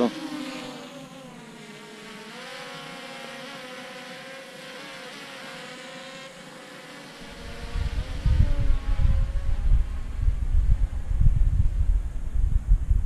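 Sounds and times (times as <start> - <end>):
drone propellers buzzing: 0.0 - 12.9.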